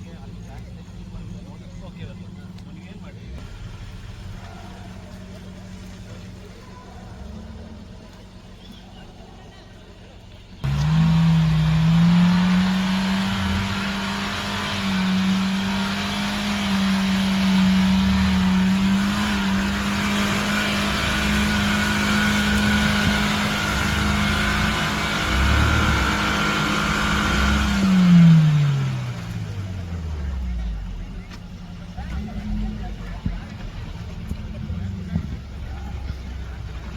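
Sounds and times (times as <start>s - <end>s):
off-road vehicle engine revving: 0.0s - 36.9s.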